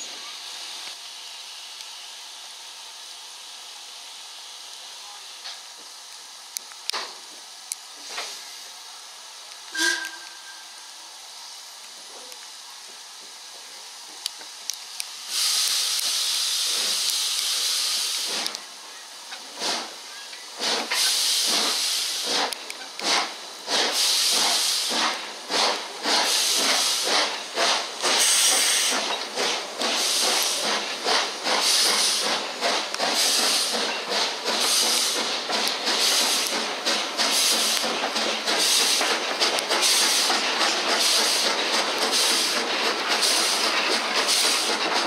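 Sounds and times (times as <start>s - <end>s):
steam hissing: 0.0s - 45.0s
steam locomotive exhaust beats: 6.8s - 45.0s.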